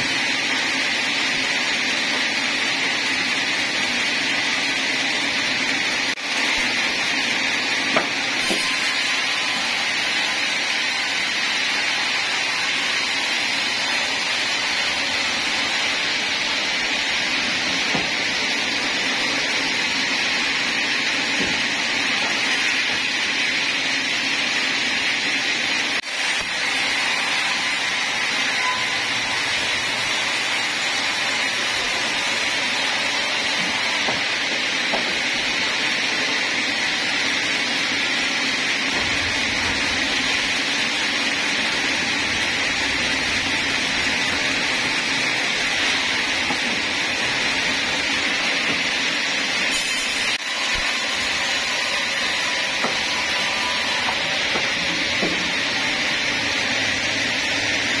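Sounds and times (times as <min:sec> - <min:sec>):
band saw running: 0:00.0 - 0:58.0.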